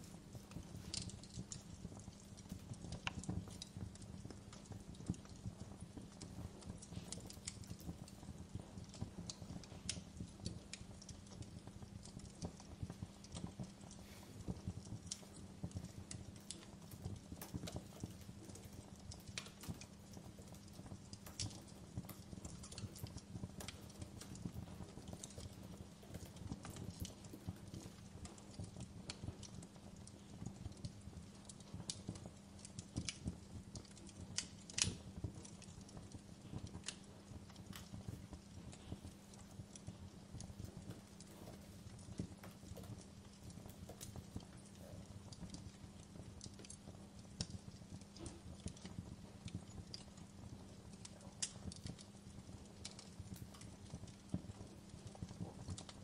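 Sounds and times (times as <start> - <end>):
fireplace crackling: 0.0 - 56.0.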